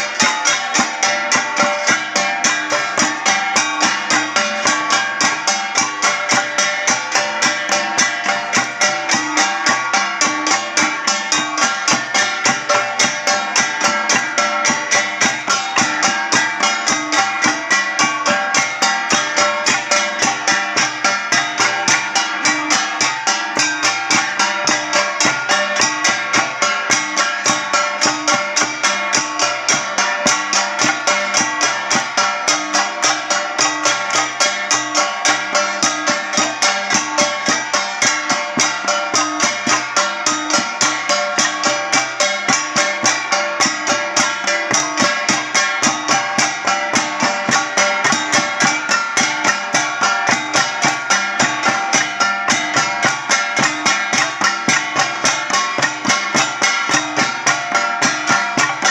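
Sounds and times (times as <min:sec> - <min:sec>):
flat gongs struck rhythmically: 0:00.0 - 0:58.9.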